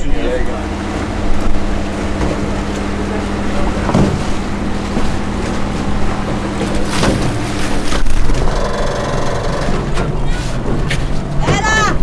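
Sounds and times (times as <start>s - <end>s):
sea wash: 0.0s - 12.0s
ship engine droning: 0.0s - 12.0s.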